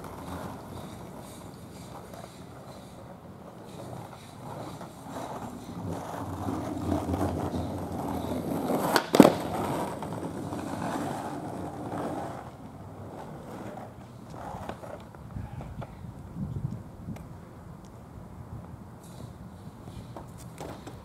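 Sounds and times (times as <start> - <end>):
skateboard clack: 0.0 - 16.0, 18.6 - 21.0
skateboard wheels rolling on asphalt: 0.0 - 21.0.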